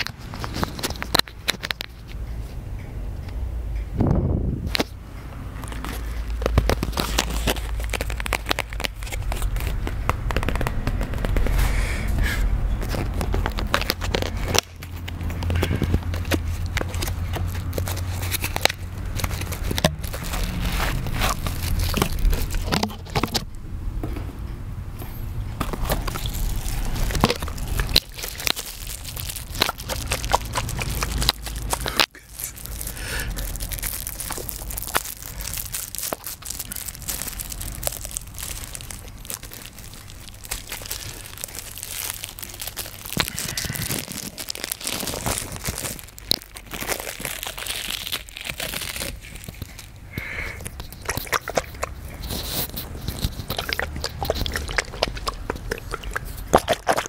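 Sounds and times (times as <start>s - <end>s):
plastic packaging crinkling: 0.0s - 2.2s, 5.6s - 11.8s, 12.6s - 23.5s, 25.6s - 57.0s.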